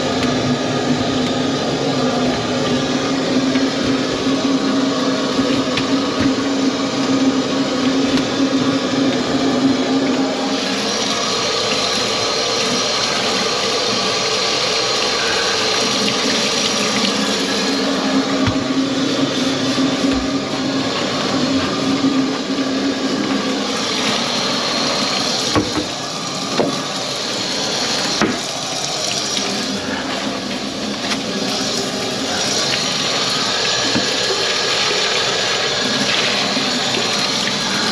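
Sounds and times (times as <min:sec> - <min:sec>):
tap water running into sink: 0:00.0 - 0:37.9.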